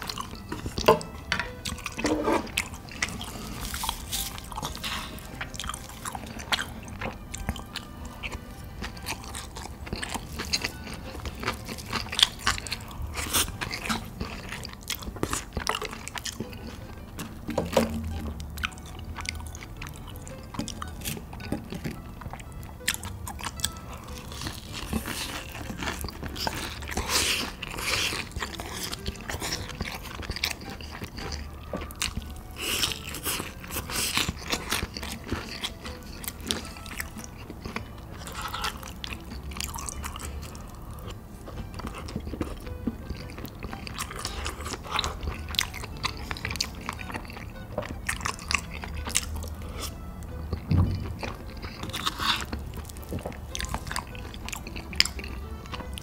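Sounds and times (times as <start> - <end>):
person crunching food: 0.0 - 56.0
soft background music: 0.0 - 56.0.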